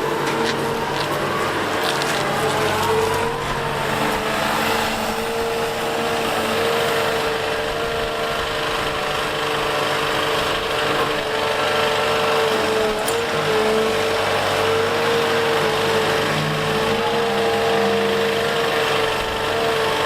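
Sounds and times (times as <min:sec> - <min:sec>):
excavator engine and hydraulics: 0:00.0 - 0:20.0.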